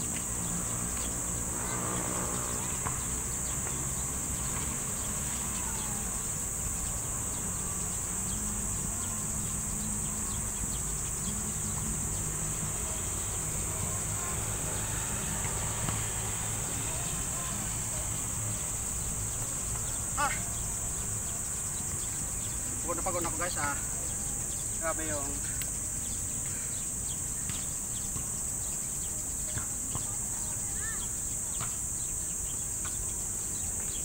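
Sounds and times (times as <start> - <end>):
high-pitched insect drone: 0.0 - 34.0
low road traffic rumble: 0.0 - 34.0.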